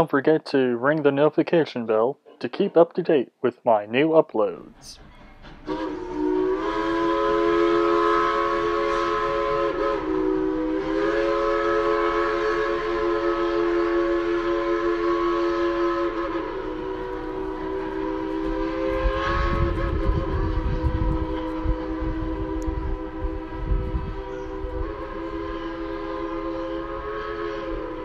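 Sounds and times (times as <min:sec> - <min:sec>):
steam locomotive chime whistle: 0:05.0 - 0:28.0.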